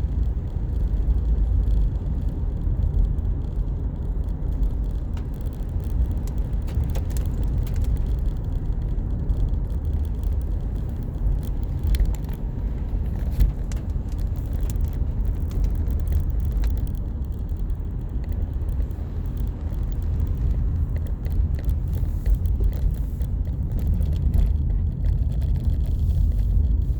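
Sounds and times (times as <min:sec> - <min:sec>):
light ticks: 0:00.0 - 0:26.9
road and engine rumble: 0:00.0 - 0:26.9.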